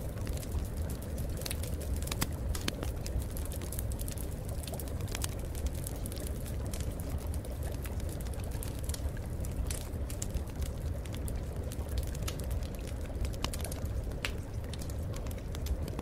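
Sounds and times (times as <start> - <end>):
water drips and splashes: 0.0 - 16.0.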